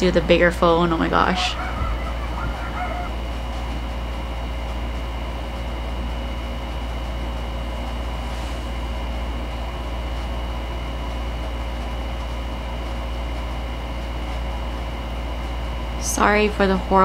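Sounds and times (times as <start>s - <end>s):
air conditioner hum: 0.0s - 17.0s
faint constant whine: 0.0s - 17.0s.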